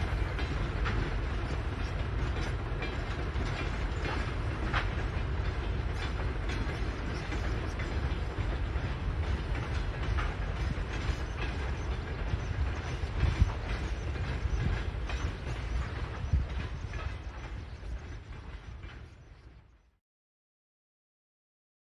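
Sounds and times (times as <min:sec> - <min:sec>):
wheels knocking on rail joints: 0:00.0 - 0:19.6
train wheels rumbling on rails: 0:00.0 - 0:20.0.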